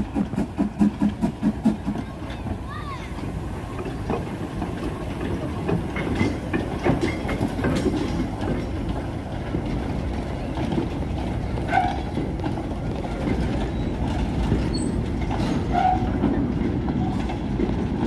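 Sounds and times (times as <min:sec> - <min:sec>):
clanks and knocks from wagons: 0:00.0 - 0:18.0
steam locomotive low rumble: 0:00.0 - 0:18.0.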